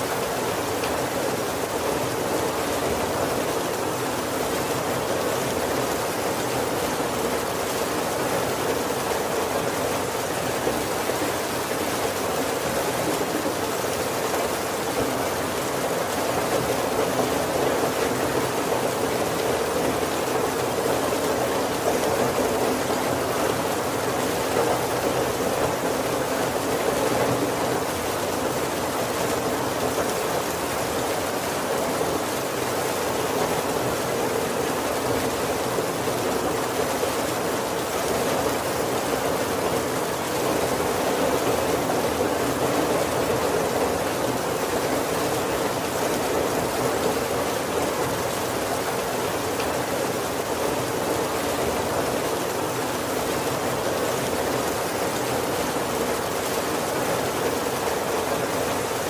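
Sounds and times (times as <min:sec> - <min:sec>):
heavy rain on a wooden roof: 0:00.0 - 0:59.0.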